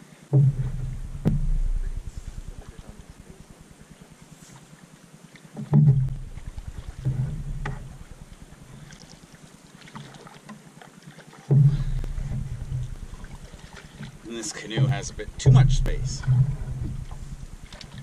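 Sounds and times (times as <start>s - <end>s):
canoe paddle strokes in water: 0.0s - 18.0s
water dripping: 0.4s - 4.1s, 5.9s - 10.5s, 11.5s - 18.0s.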